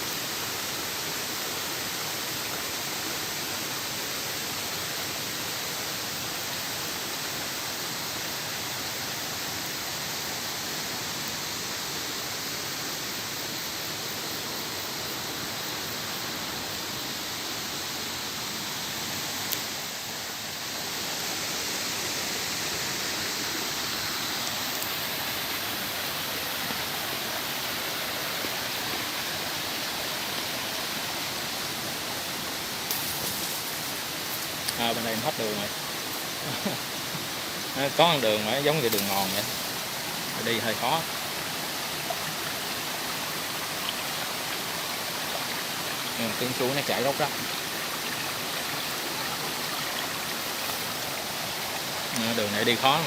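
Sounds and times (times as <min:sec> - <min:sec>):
water rushing over rocks: 0:00.0 - 0:53.0.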